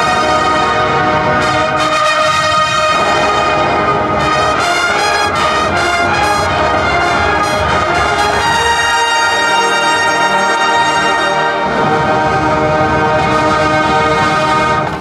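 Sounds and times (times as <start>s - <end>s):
brass band playing chords: 0.0s - 15.0s.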